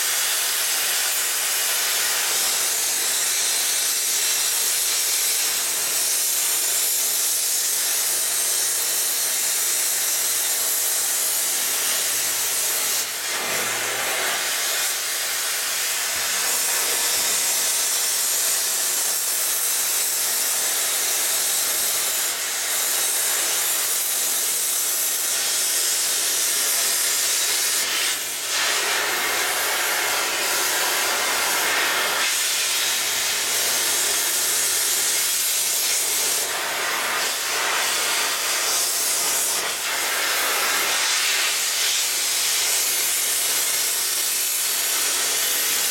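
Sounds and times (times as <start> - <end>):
cutting torch hissing: 0.0 - 45.9.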